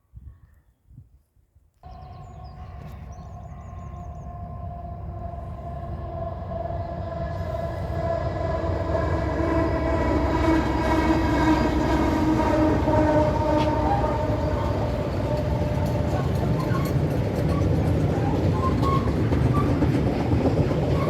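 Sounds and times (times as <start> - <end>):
diesel locomotive engine rumble: 1.8 - 21.0.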